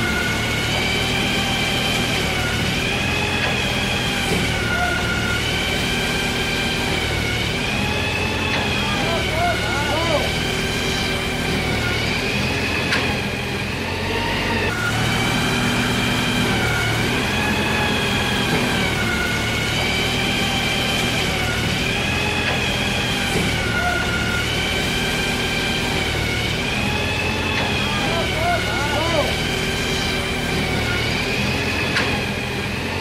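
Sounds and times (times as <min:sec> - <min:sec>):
motor humming and whining: 0:00.0 - 0:33.0.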